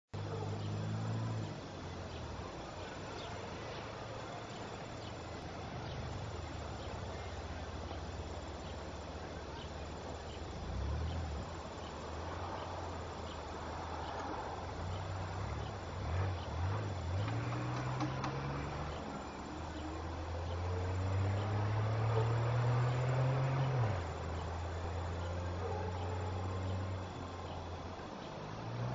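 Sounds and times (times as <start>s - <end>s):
background hiss: 0.2s - 28.9s
insects chirping: 0.2s - 28.9s.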